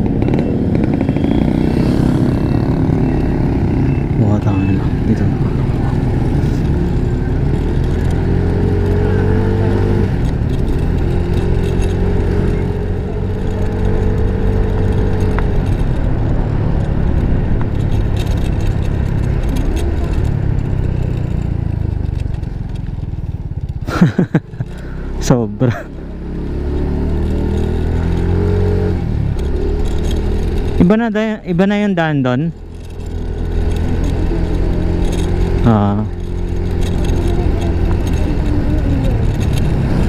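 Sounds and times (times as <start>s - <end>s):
motor scooter engine running: 0.0s - 40.0s
road and wind noise: 0.0s - 40.0s.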